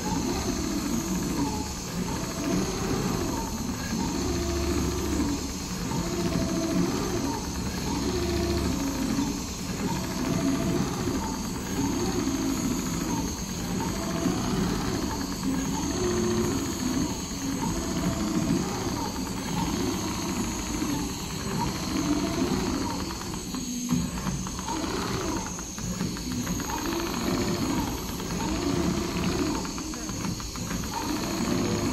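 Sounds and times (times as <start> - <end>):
sewing machine stitching: 0.0 - 31.9.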